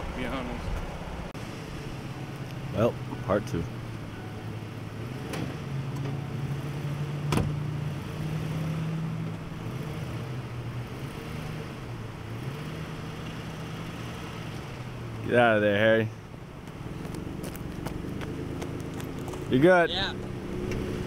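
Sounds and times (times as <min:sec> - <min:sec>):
pickup engine running under load: 0:00.0 - 0:21.0.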